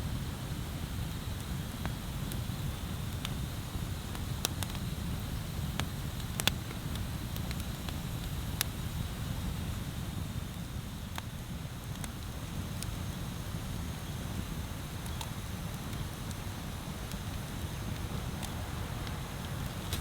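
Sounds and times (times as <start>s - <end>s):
bonfire crackling and popping: 0.8s - 20.0s.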